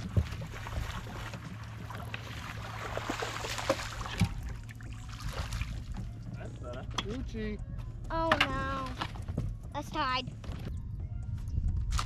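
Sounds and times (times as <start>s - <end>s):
boat motor hum: 0.0s - 11.8s.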